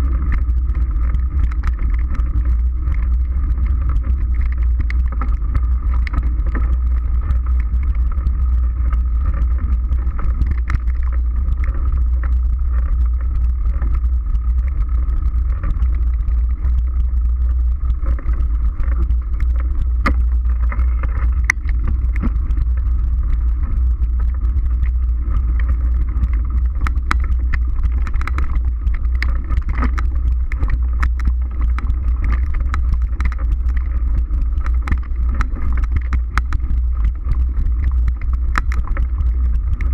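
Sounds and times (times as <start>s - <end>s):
bike rattling clicks and knocks: 0.0s - 39.9s.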